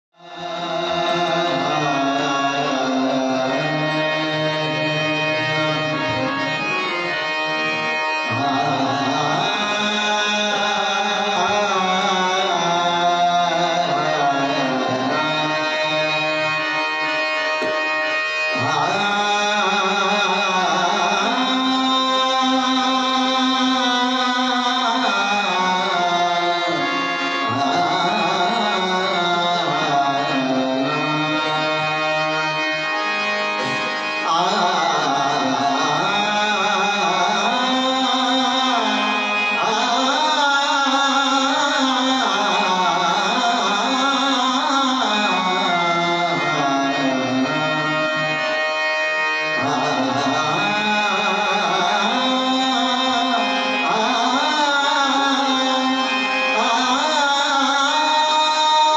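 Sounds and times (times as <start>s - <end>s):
harmonium: 0.2s - 58.9s
man singing: 0.2s - 58.9s
tabla: 0.2s - 58.9s.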